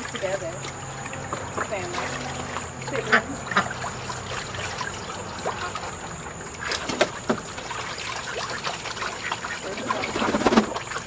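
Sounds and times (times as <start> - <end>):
ducks splashing in water: 0.0 - 11.0.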